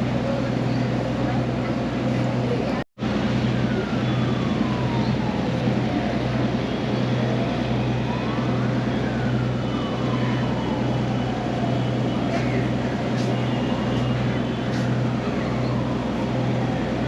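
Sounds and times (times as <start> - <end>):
ferry engine drone: 0.0 - 17.0
faint wailing siren: 3.1 - 17.0.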